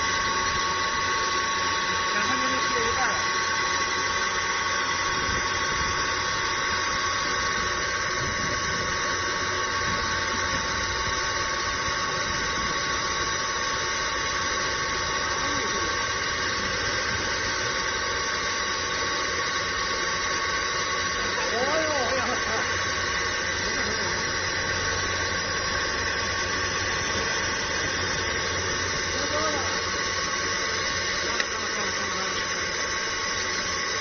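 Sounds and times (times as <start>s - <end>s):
pump machinery hissing and whining: 0.0s - 34.0s.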